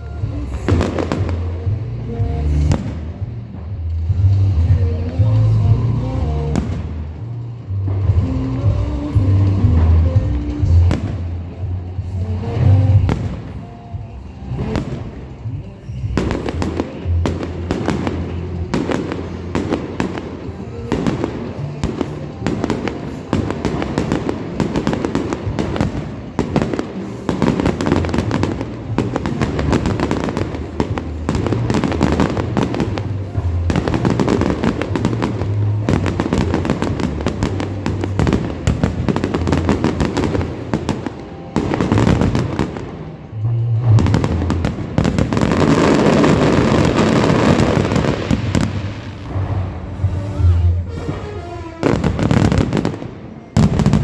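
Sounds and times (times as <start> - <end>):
christmas music: 0.0 - 54.0
fireworks bangs and crackles: 0.0 - 54.0.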